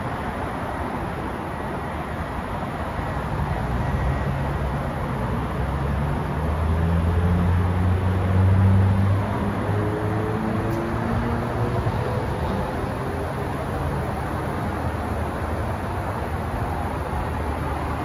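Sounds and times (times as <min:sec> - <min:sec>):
outdoor traffic noise: 0:00.0 - 0:18.0.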